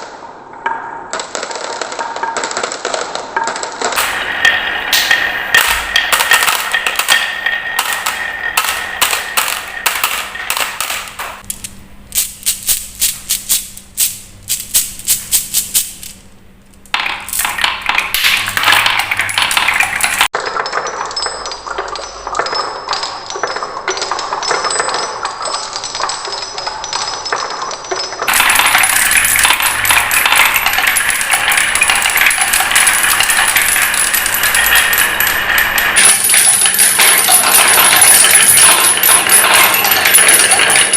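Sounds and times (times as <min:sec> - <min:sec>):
balls clacking down wooden tracks: 0:00.0 - 0:11.5, 0:12.2 - 0:16.2, 0:16.8 - 0:40.9.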